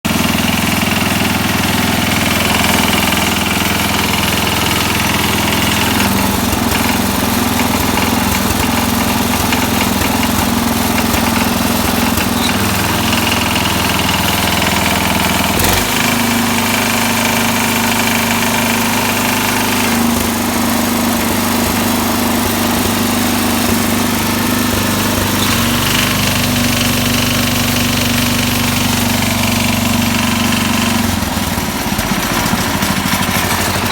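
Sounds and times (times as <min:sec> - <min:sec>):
engine knocking: 0:00.0 - 0:33.9
garden tractor engine running: 0:00.0 - 0:33.9.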